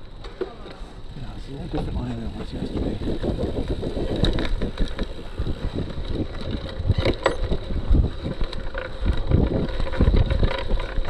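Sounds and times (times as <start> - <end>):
bike tyres churning in sand: 0.0 - 11.0
gritty bike drivetrain: 0.0 - 11.0
wind buffeting microphone: 1.0 - 11.0.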